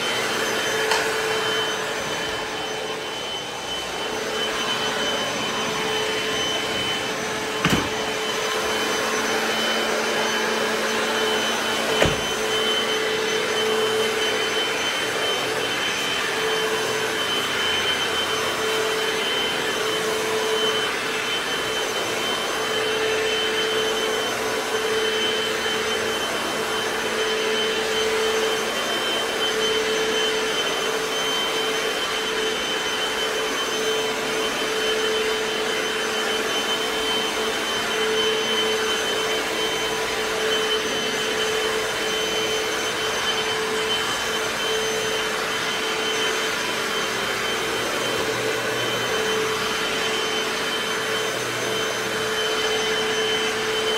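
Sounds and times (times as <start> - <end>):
floor cleaner motor whine: 0.0 - 53.9.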